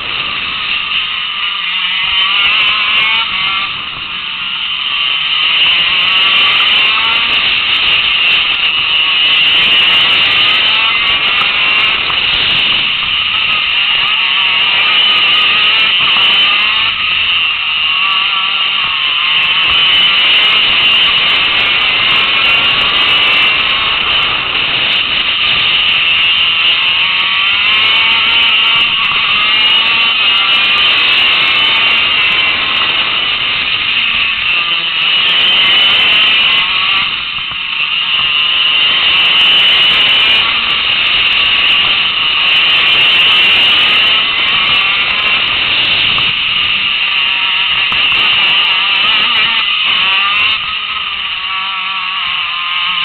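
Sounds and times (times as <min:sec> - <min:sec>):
kart engine screaming: 0:00.0 - 0:53.0.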